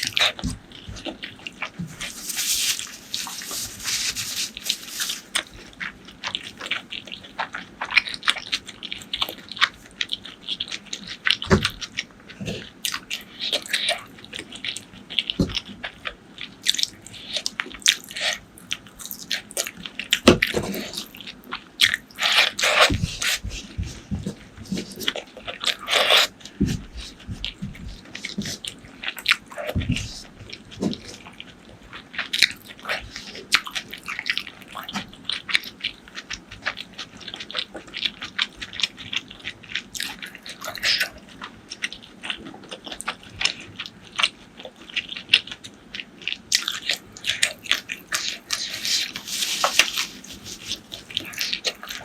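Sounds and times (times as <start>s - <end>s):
wet chewing with crunches: 0.0s - 52.0s.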